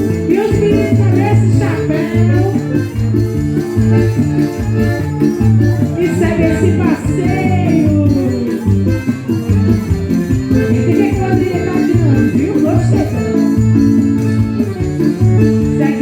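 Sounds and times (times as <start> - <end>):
live band playing upbeat music: 0.0 - 16.0
shaker percussion: 0.0 - 16.0.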